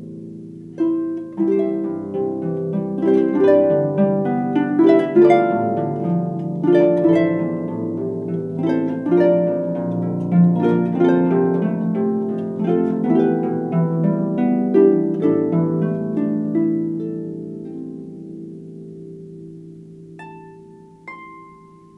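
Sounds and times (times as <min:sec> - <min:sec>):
plucked string melody: 0:00.0 - 0:21.9.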